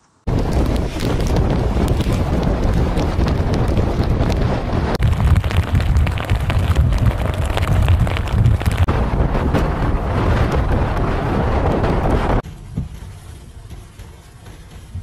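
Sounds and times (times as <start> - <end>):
wind buffeting microphone: 0.3 - 15.0.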